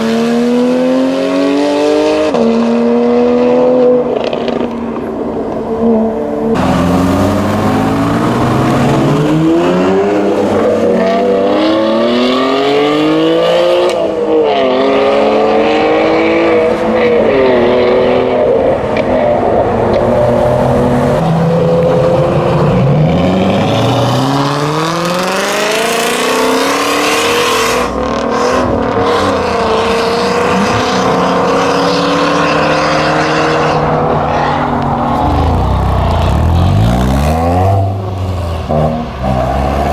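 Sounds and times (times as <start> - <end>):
car engines accelerating hard: 6.4 - 39.9.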